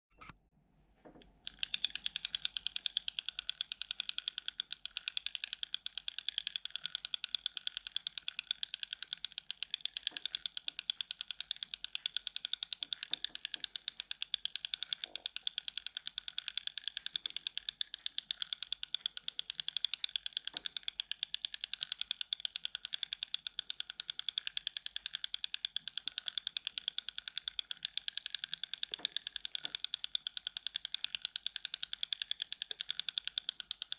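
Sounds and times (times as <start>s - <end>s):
fishing reel clicking: 1.4s - 33.9s.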